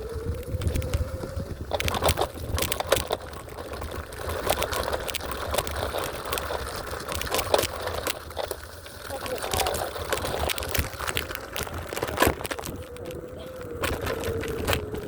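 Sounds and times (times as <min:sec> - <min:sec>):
scooter wheels rattling on rocks: 0:00.0 - 0:15.0.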